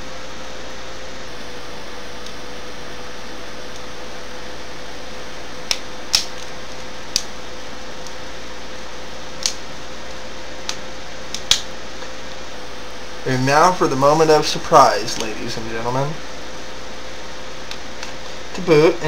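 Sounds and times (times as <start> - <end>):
faint hum: 0.0 - 19.0
steady hiss: 0.0 - 19.0.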